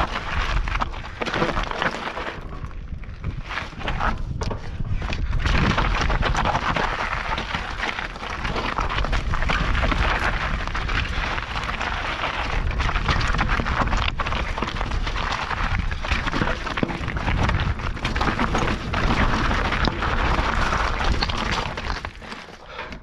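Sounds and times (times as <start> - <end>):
bike tyres crunching on gravel: 0.0 - 22.9
bike rattling and knocking: 0.0 - 23.0.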